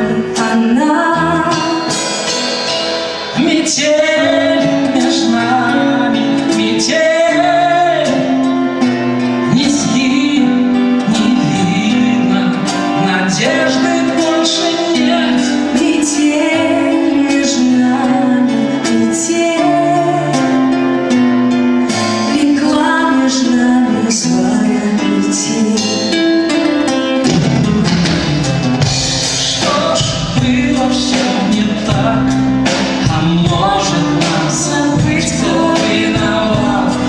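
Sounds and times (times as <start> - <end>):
band playing slow song: 0.0 - 37.0
guitar accompaniment: 0.0 - 37.0
person singing: 0.0 - 37.0.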